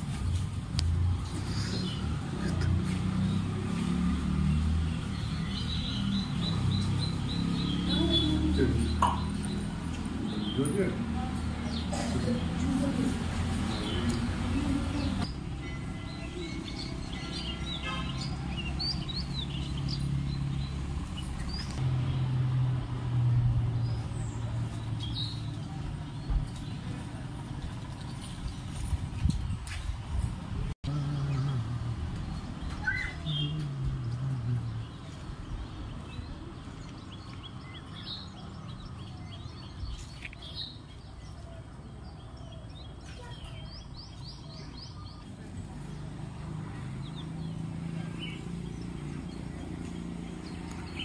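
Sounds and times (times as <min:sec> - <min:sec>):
small birds chirping: 0:01.1 - 0:22.3, 0:23.7 - 0:30.2, 0:30.9 - 0:51.0.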